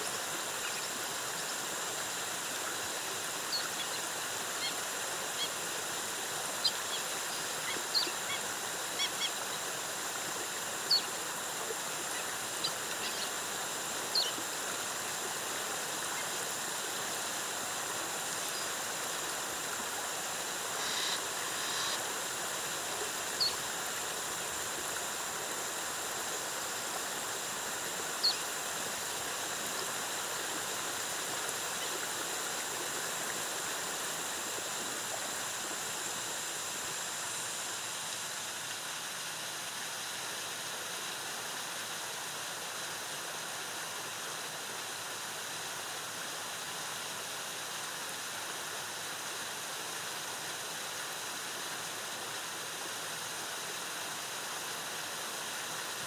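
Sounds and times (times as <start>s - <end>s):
cascading waterfall: 0.0s - 56.0s.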